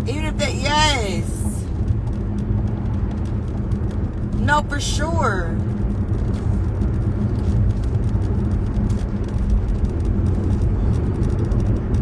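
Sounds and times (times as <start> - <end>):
steady low rumble with hiss: 0.0 - 12.0.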